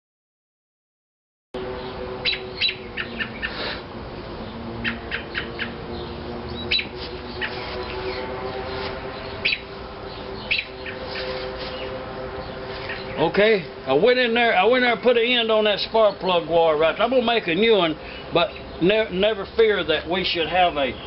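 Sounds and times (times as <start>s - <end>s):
steady low hum: 1.6s - 20.2s
birds chirping: 1.6s - 21.0s.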